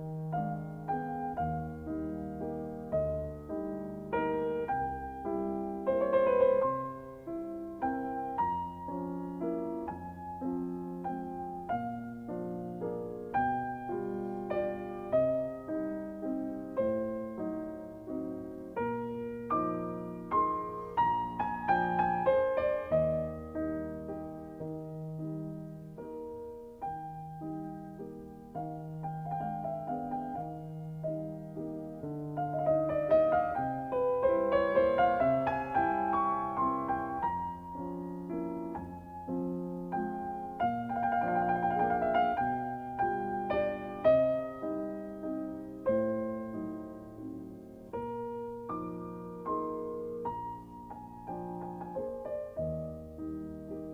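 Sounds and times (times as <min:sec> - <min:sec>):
gentle piano music: 0:00.0 - 0:53.9.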